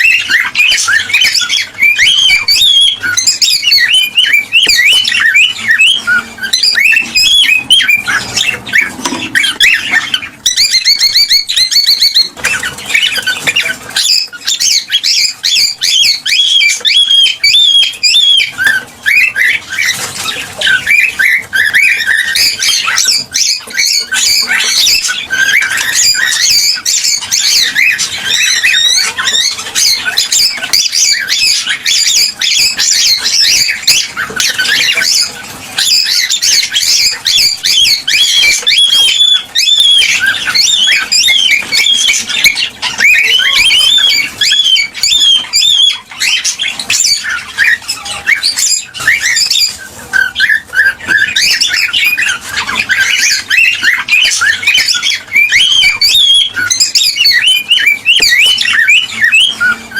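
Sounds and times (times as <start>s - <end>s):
cockatiel squawks: 0.0s - 59.9s
cockatiels chirping and whistling: 0.0s - 59.9s.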